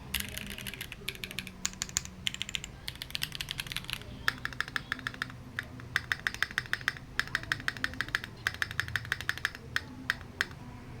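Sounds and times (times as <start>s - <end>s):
mechanical keyboard typing: 0.0s - 10.6s.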